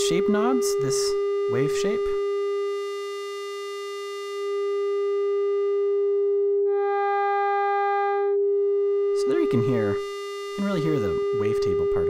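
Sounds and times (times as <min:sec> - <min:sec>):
synthesizer tone shifting timbre: 0:00.0 - 0:12.0.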